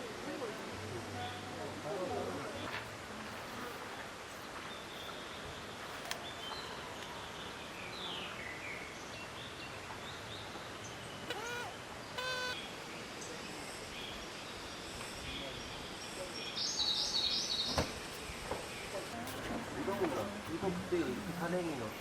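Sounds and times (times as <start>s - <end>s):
birds chirping: 2.5s - 22.0s.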